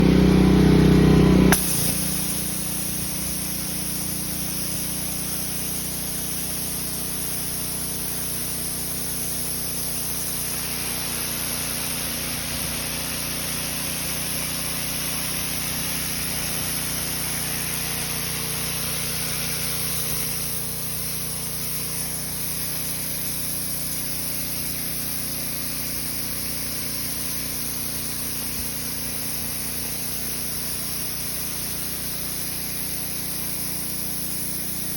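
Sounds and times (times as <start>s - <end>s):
pressure washer motor hum: 0.0s - 34.9s
water jet hissing on concrete: 0.2s - 34.9s.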